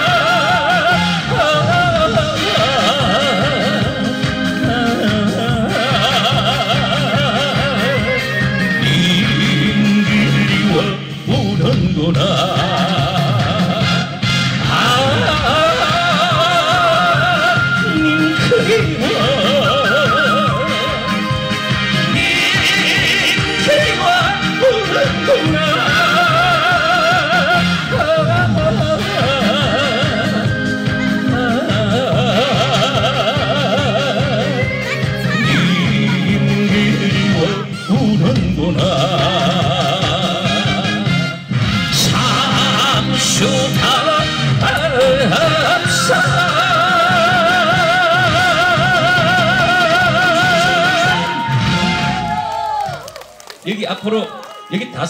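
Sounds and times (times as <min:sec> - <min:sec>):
man singing into a microphone: 0:00.0 - 0:52.0
steady backing beat: 0:00.0 - 0:53.0.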